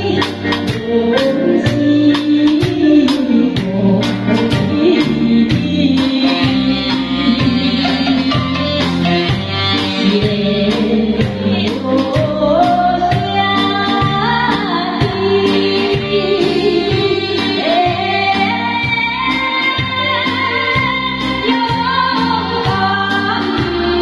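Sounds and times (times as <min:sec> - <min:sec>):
band with beat and guitar: 0:00.0 - 0:24.0
woman singing: 0:00.0 - 0:24.0.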